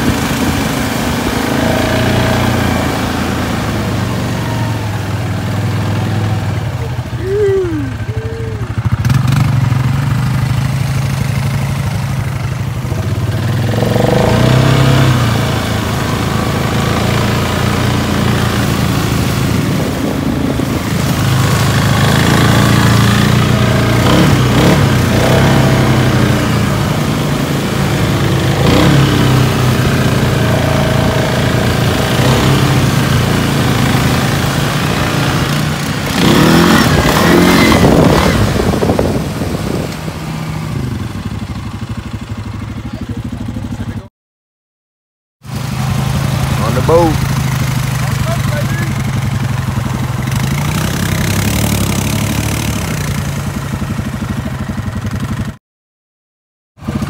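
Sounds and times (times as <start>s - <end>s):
water churning and splashing: 0.0s - 41.9s, 45.4s - 55.2s
atv engines revving: 0.0s - 44.1s, 45.5s - 55.6s, 56.8s - 57.0s.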